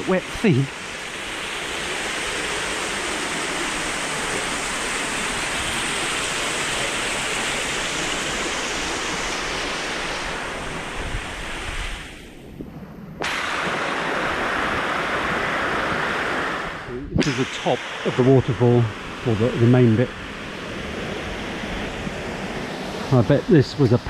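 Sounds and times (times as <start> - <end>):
waterfall rushing: 0.0 - 12.2, 13.2 - 24.0.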